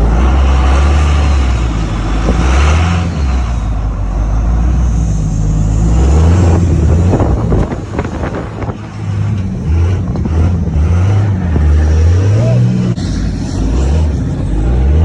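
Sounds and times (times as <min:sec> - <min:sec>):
pickup truck engine straining: 0:00.0 - 0:15.0.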